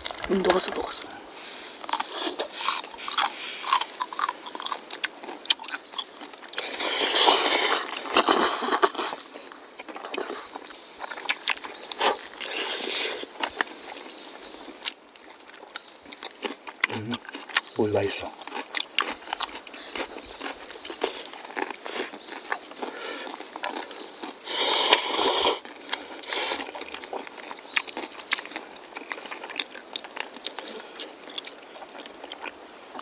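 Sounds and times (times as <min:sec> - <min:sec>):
eating and slurping: 0:00.0 - 0:33.0.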